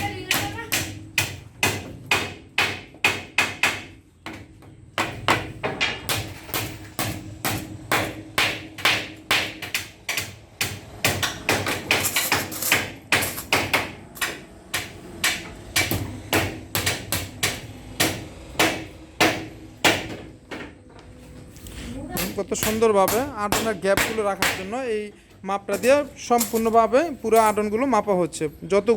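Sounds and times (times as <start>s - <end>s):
hammers driving nails: 0.0s - 20.8s, 22.1s - 27.6s.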